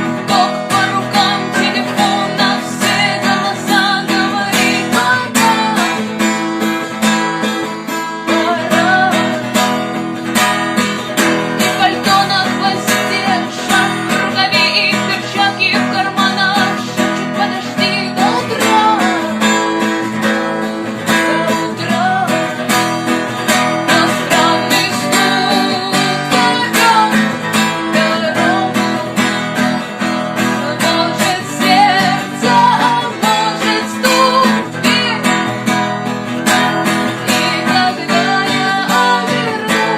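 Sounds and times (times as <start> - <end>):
strummed guitar music: 0.0 - 39.9.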